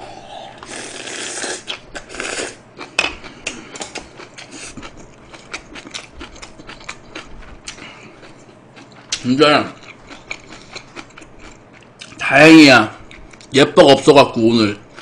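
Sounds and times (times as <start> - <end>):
person chewing food: 0.1 - 12.2, 13.0 - 13.5.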